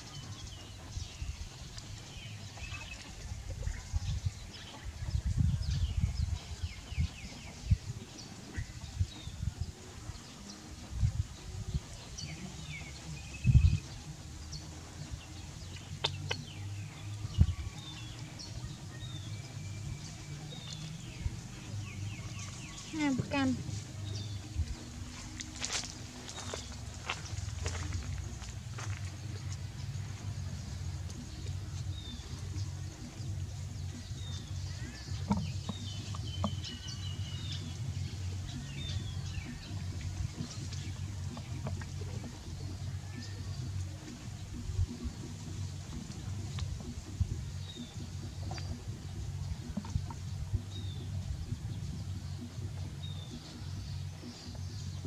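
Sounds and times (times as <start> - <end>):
birds chirping and whistling: 0.0 - 55.0.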